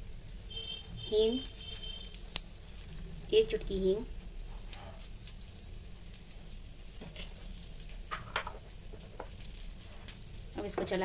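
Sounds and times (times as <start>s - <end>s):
oil crackling in a pan: 0.0s - 11.0s.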